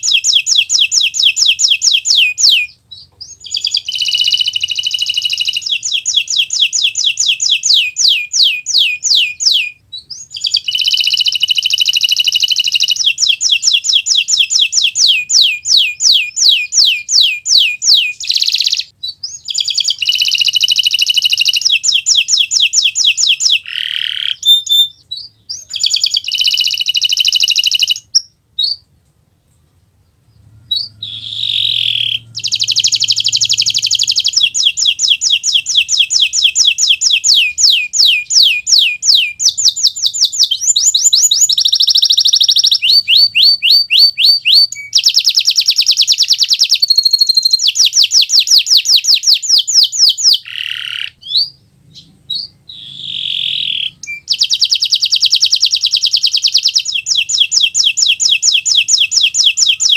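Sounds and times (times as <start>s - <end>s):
canary singing trills: 0.0s - 28.9s, 29.8s - 59.9s.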